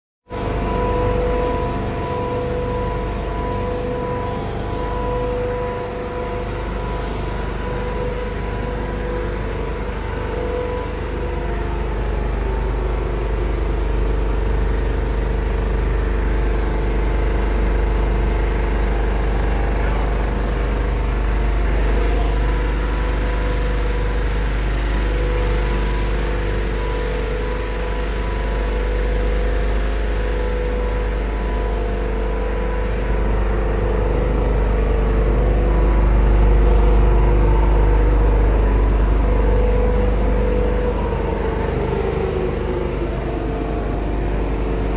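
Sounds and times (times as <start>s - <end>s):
quilting machine running: 0.3s - 44.9s.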